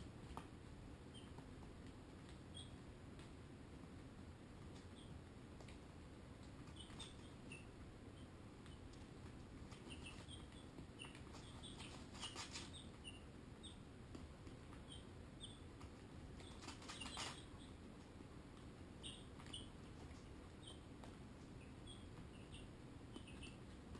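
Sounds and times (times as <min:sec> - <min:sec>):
baby chicks peeping: 0:01.1 - 0:02.8, 0:04.6 - 0:23.9.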